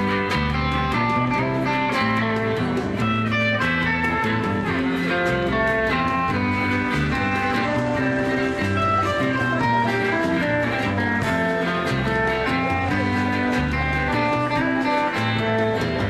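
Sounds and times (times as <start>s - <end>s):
bass guitar: 0.0s - 16.0s
drum kit beat: 0.0s - 16.0s
electric lead guitar melody: 0.0s - 16.0s
rhythm guitar: 0.0s - 16.0s.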